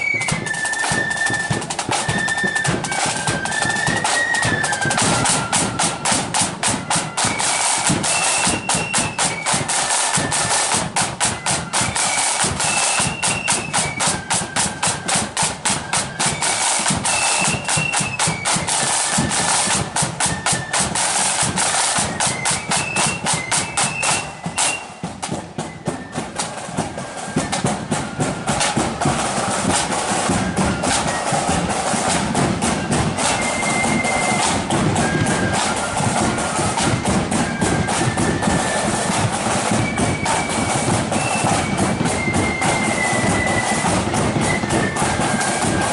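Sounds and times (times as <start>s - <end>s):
flutes playing high melody: 0.0s - 45.9s
rapid snare drumming: 0.0s - 45.9s.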